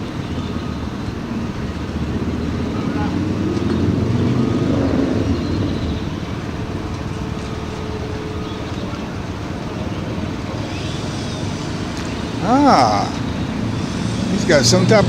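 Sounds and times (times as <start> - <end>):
generator running: 0.0 - 15.0.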